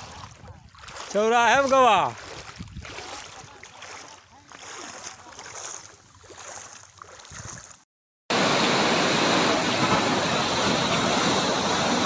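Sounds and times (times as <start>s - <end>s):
floodwater rushing over road: 0.0s - 12.0s.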